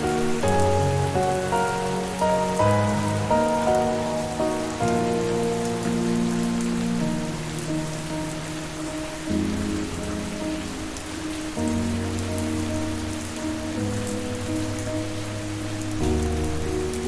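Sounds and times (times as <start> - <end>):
soft music pad of held chords: 0.0 - 17.0
steady rain falling: 0.0 - 17.0.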